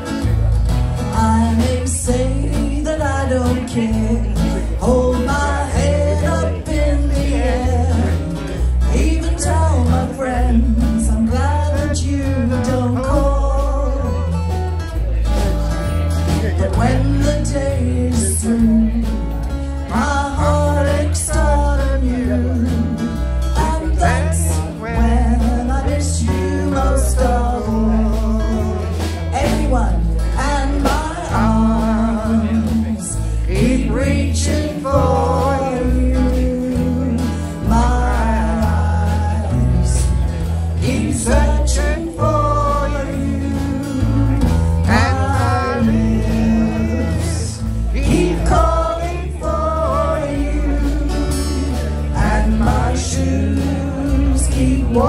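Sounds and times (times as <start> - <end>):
acoustic guitars: 0.0 - 55.0
bass guitar: 0.0 - 55.0
drums: 0.0 - 55.0
woman singing: 1.1 - 14.5, 16.3 - 55.0.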